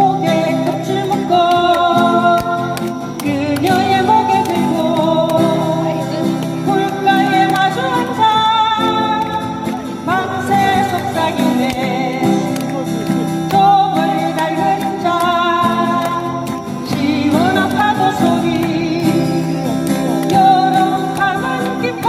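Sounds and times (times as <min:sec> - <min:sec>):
acoustic guitar: 0:00.0 - 0:22.0
person singing: 0:00.0 - 0:22.0.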